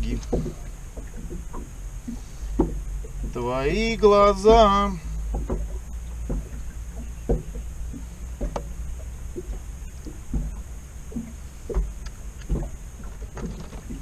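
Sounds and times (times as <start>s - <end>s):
gear knocking in inflatable boat: 0.0s - 14.0s
steady low rumble: 0.0s - 14.0s.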